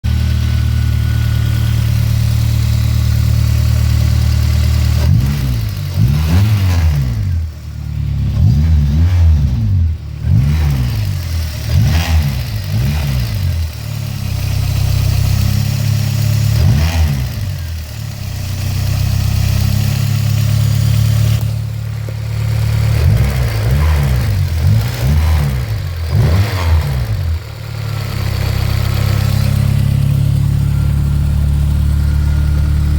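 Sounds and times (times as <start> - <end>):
car engine idling and revving: 0.0 - 32.9.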